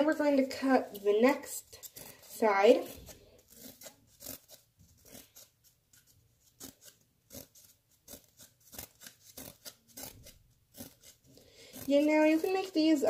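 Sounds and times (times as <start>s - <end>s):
scissors snipping cardboard: 0.9s - 13.0s.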